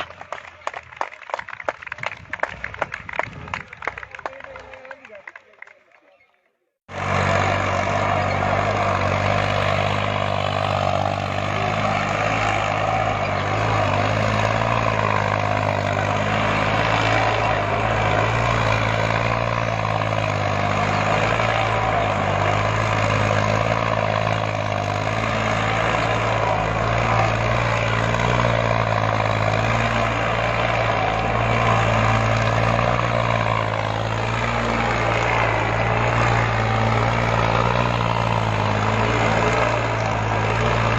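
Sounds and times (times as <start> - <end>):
tractor diesel engine droning: 0.0 - 4.9, 6.9 - 40.9.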